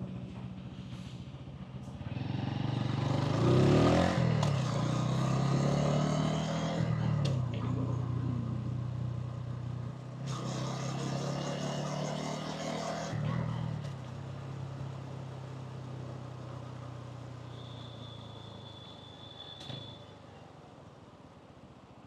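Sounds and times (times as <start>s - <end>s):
motorcycle engine and exhaust: 0.0s - 20.3s.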